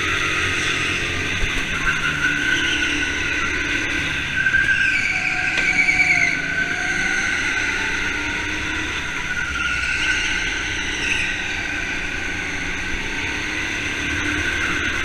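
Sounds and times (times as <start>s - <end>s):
go-kart engine whine: 0.0s - 15.0s.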